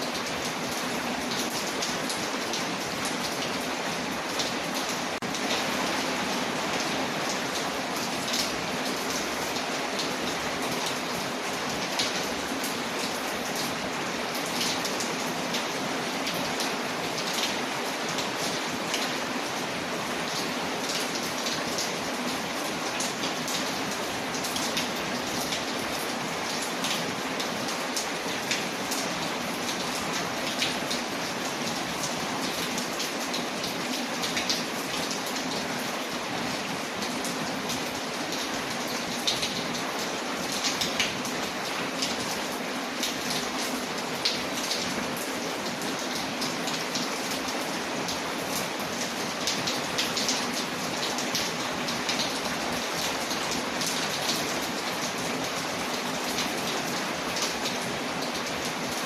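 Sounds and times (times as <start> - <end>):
sharp ticks of raindrops: 0.0 - 59.0
steady rain falling: 0.0 - 59.0.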